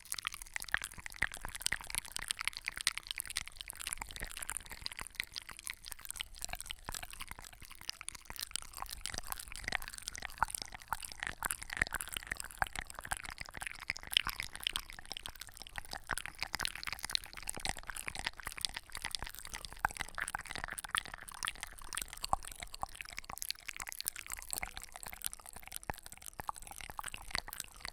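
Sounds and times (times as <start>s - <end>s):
small crackles and clicks: 0.0s - 27.9s.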